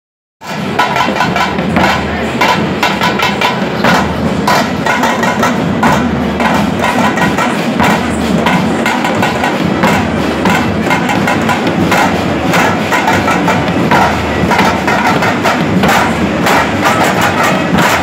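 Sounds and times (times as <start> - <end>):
frame drums and barrel drum beaten: 0.4 - 18.0.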